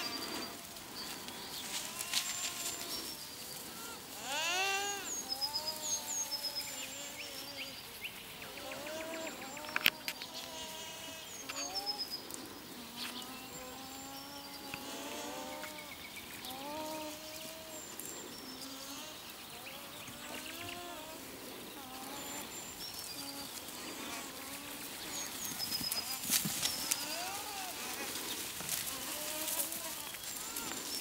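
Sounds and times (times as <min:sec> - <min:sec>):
alpacas humming: 0:00.0 - 0:31.0
small birds chirping: 0:00.0 - 0:31.0.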